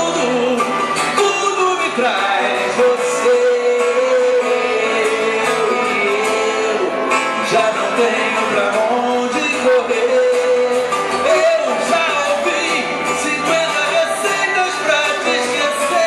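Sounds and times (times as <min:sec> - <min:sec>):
electric guitar: 0:00.0 - 0:16.0
man singing: 0:00.0 - 0:16.0.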